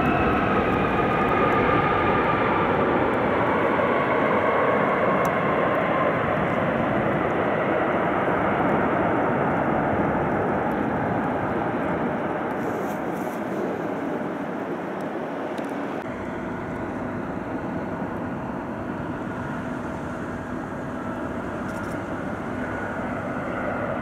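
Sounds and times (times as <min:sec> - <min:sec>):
faint engine whine: 0:00.0 - 0:24.0
jet engines rushing: 0:00.0 - 0:24.0.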